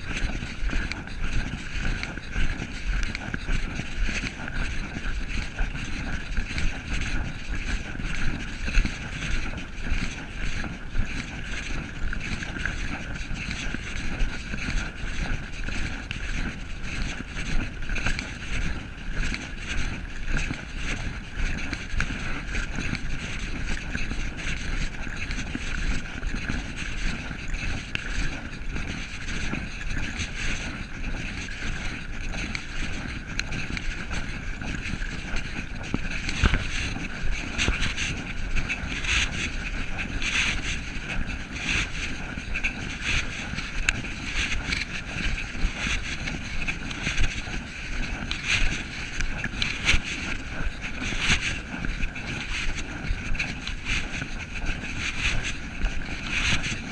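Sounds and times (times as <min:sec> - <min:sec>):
footsteps scuffing on trail: 0:00.0 - 0:56.9
steady rushing: 0:00.0 - 0:56.9.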